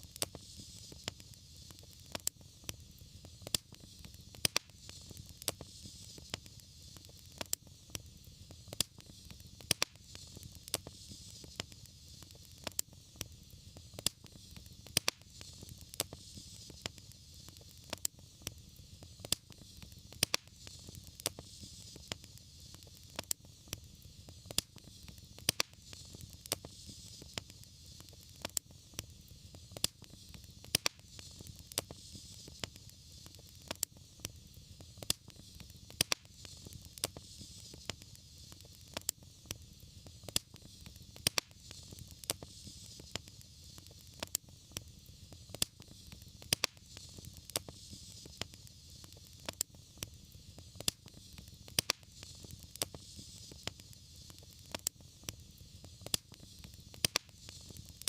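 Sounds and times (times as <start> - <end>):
fire crackling and popping: 0.0 - 58.0
soft hiss: 0.0 - 58.0.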